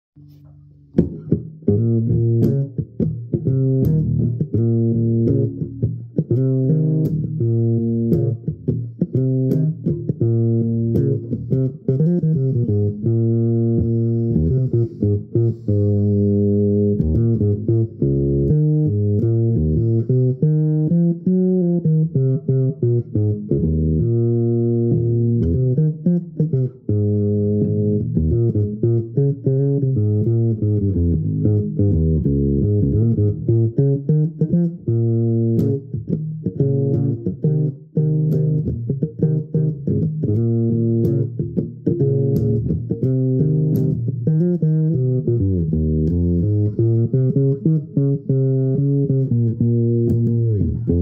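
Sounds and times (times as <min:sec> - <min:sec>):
electric bass guitar plucked: 0:00.2 - 0:51.0.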